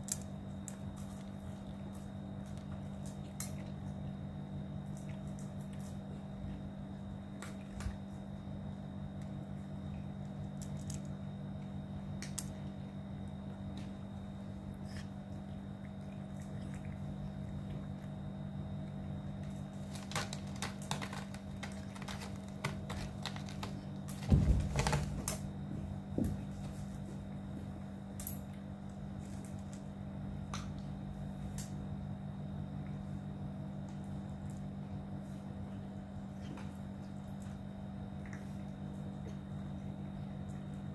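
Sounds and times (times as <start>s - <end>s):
cats crunching dry kibble: 0.0s - 40.9s
low hum: 0.0s - 40.9s.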